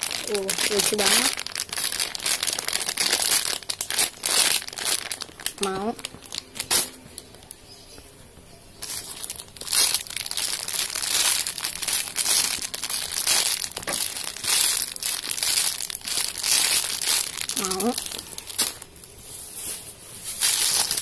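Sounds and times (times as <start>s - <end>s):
plastic bag crinkling: 0.0s - 7.8s, 8.8s - 21.0s.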